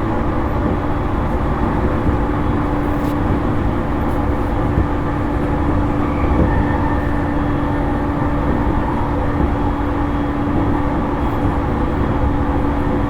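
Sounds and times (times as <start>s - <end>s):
train motor hum: 0.0s - 13.0s
train wheels rumbling on rails: 0.0s - 13.0s.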